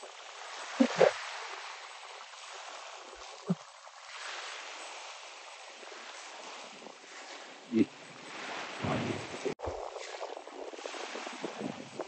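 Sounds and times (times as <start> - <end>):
sea water lapping on shore: 0.0 - 12.0.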